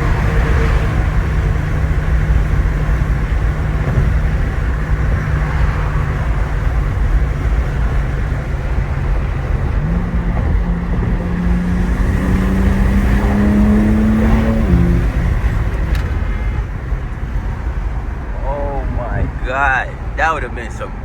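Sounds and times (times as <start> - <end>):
car engine cruising: 0.0 - 21.0
road and tyre noise: 0.0 - 21.0.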